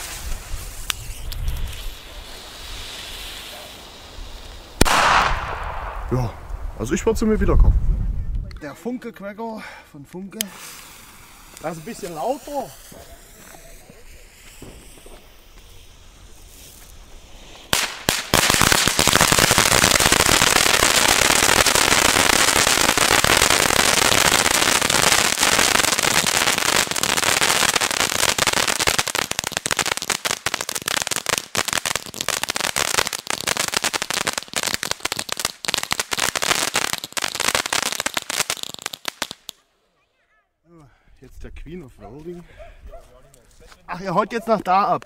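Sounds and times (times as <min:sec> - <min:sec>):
firework fountain crackling: 0:00.0 - 0:06.9, 0:10.4 - 0:39.6.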